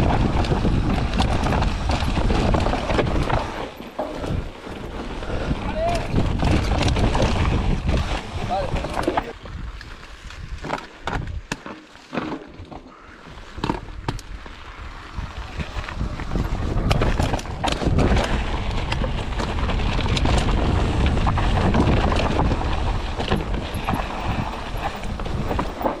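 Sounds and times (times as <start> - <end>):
wind buffeting microphone: 0.0 - 11.5, 13.5 - 26.0
bike knocking and rattling: 0.0 - 26.0
bike tyres on dirt and rock: 0.0 - 26.0.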